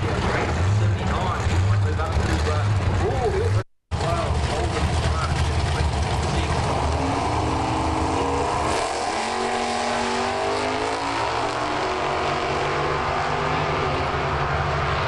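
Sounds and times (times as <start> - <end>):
drag racing cars accelerating: 0.0 - 15.0.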